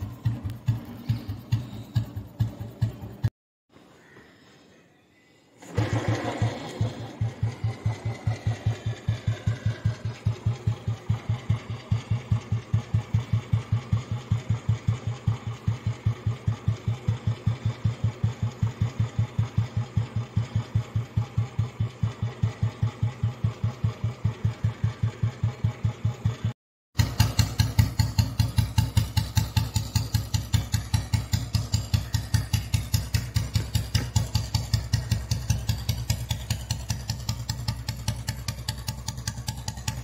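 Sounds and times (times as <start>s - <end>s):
motorcycle engine idling: 0.0s - 3.3s, 5.6s - 40.0s.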